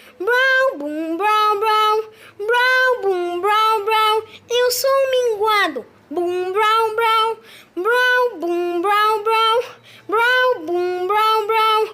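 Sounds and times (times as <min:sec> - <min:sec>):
child singing a syllable chant: 0:00.0 - 0:11.9.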